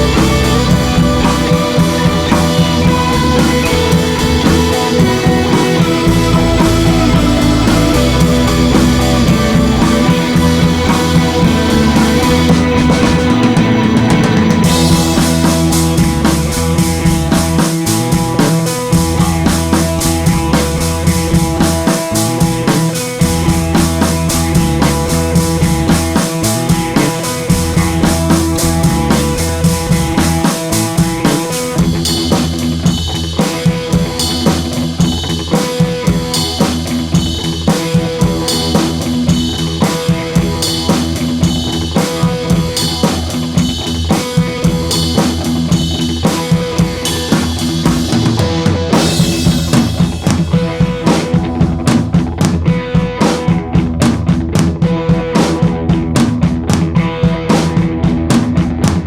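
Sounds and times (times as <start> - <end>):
rock music with drum beat: 0.0 - 59.0.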